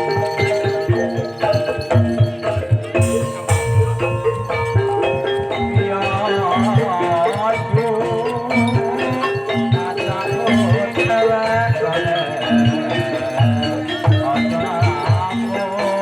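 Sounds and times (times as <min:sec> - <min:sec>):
gliding melodic line: 0:00.0 - 0:16.0
metallophones playing melody: 0:00.0 - 0:16.0.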